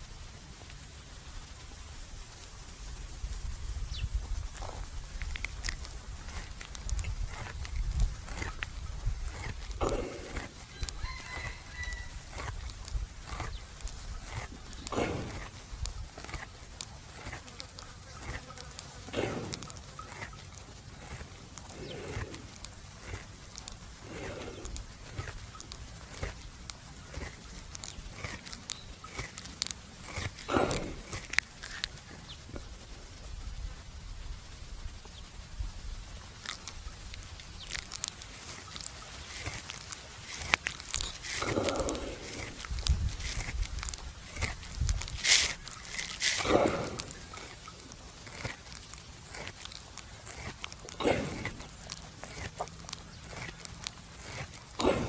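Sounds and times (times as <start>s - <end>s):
buffalo chewing cud: 0.0s - 55.0s.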